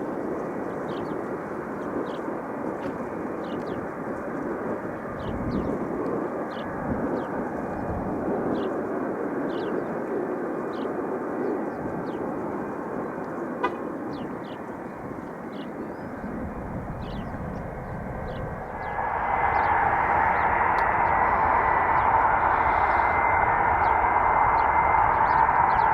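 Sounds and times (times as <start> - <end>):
jet engines running: 0.0 - 25.9.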